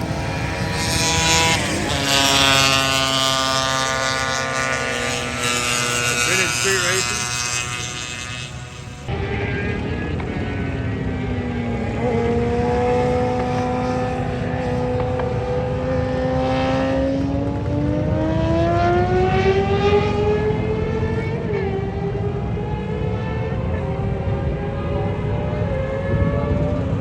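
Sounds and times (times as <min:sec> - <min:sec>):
racing motorcycle engine revving: 0:00.0 - 0:27.0.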